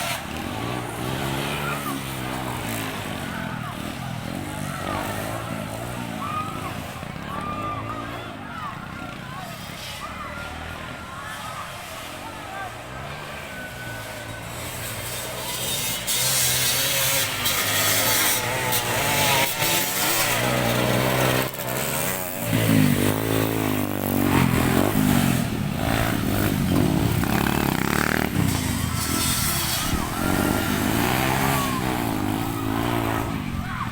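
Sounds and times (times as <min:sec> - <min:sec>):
dirt bike engines revving: 0:00.0 - 0:33.9.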